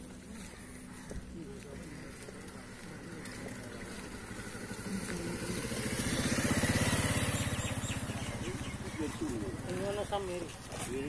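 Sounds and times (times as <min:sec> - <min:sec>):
motorcycle passing by: 0:00.0 - 0:11.0.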